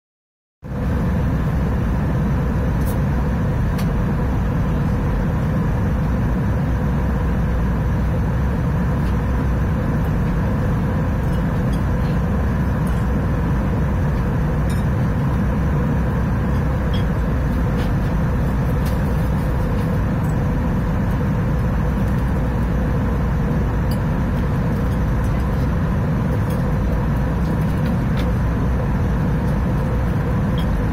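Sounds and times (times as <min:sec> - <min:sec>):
faint steady hum: 0:00.7 - 0:30.9.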